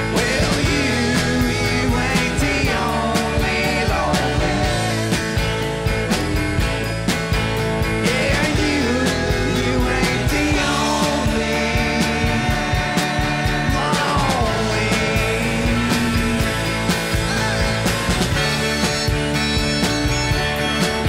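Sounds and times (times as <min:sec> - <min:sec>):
rock band playing live: 0:00.0 - 0:21.0
sliding lead melody: 0:00.0 - 0:21.0.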